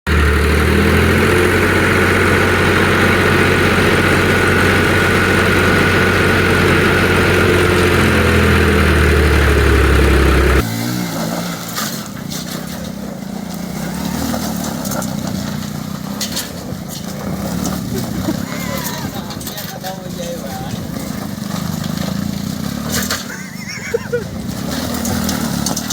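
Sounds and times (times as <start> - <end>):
tractor diesel engine running: 0.0 - 25.9
faint engine: 0.1 - 25.9.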